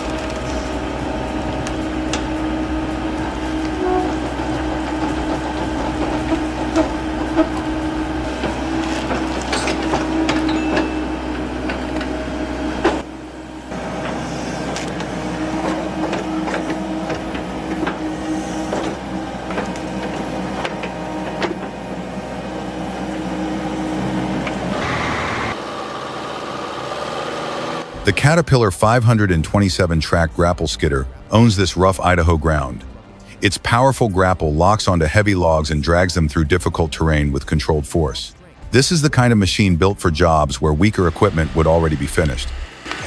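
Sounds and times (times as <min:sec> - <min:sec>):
heavy machine engine running: 0:00.0 - 0:31.3, 0:38.3 - 0:43.0.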